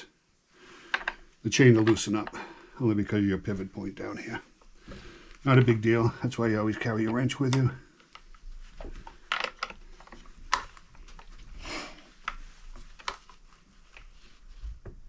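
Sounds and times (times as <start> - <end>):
handling rustle: 1.0 - 15.0.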